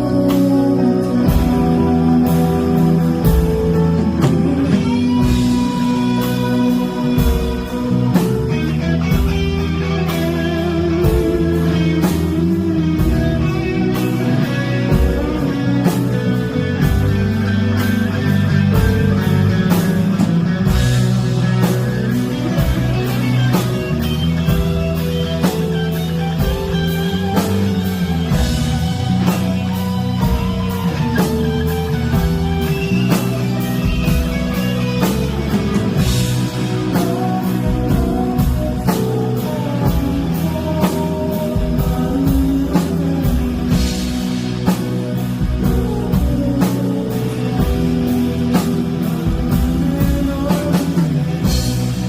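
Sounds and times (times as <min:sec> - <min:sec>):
guitar: 0:00.0 - 0:52.0
rock band playing: 0:00.0 - 0:52.0.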